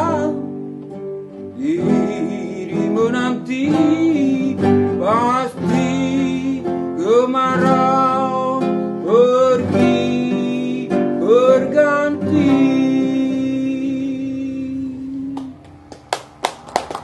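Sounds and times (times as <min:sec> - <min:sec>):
person singing: 0:00.0 - 0:15.8
acoustic guitar: 0:00.0 - 0:16.8.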